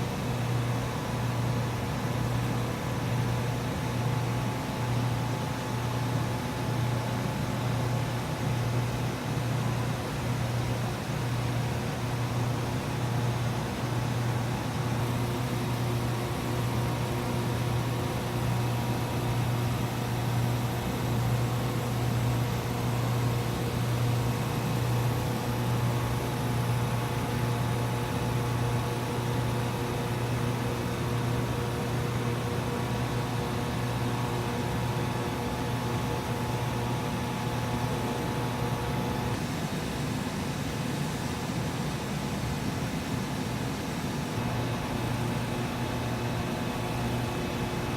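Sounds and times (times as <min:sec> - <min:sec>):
machine drone with low hum: 0:00.0 - 0:41.4, 0:43.5 - 0:47.9.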